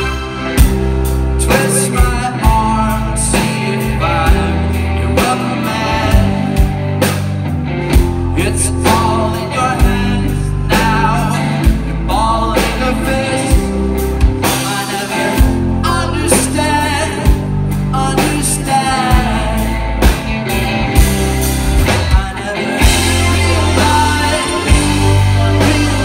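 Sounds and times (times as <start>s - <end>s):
man singing: 0.0s - 7.0s, 8.3s - 20.3s, 21.9s - 26.0s
rock band playing live: 0.0s - 26.0s.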